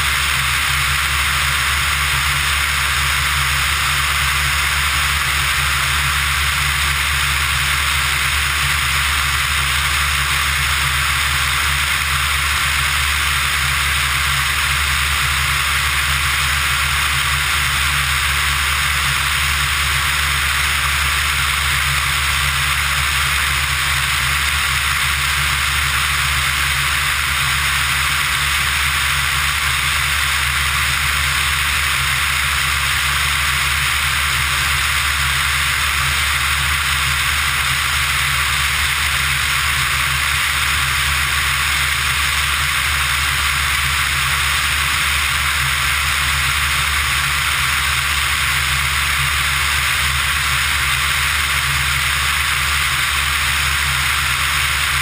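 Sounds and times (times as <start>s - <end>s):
engine and propeller hum: 0.0s - 55.0s.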